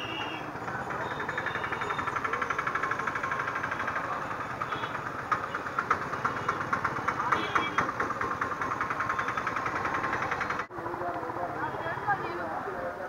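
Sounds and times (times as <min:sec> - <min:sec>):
small engine idling: 0:00.0 - 0:12.1
street traffic hum: 0:00.0 - 0:13.0.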